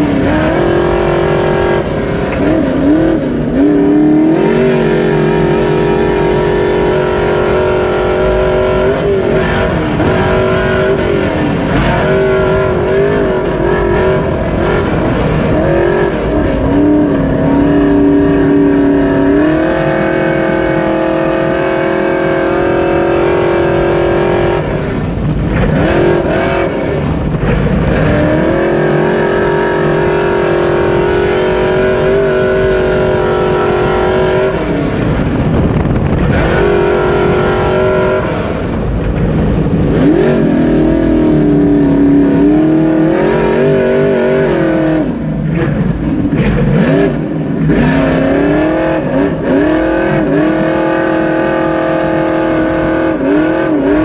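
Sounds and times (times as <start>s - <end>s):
truck engine at high revs: 0.0s - 54.0s.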